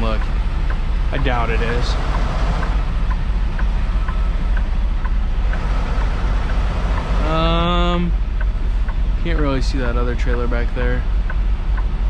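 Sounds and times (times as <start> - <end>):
truck diesel engine at low speed: 0.0 - 12.0.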